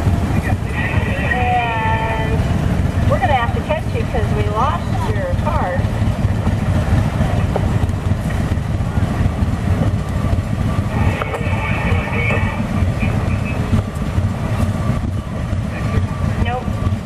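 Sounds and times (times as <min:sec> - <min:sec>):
tractor engine pulsing: 0:00.0 - 0:17.0.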